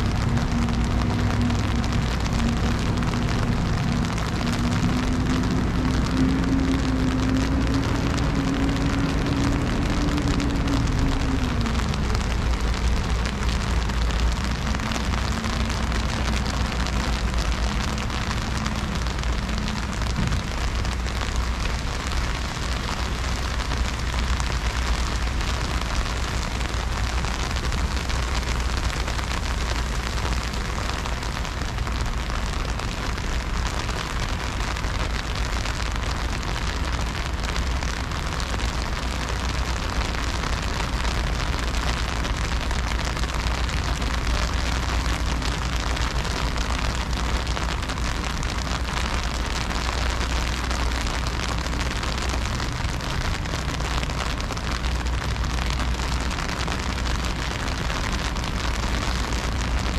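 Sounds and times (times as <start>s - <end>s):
heavy rain on pavement: 0.0s - 59.9s
low rumble: 0.0s - 59.9s.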